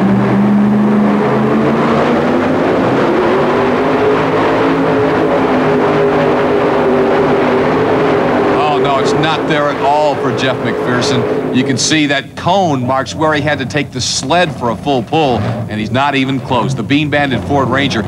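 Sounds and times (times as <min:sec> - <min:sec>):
supercharged truck engine under load: 0:00.0 - 0:18.0.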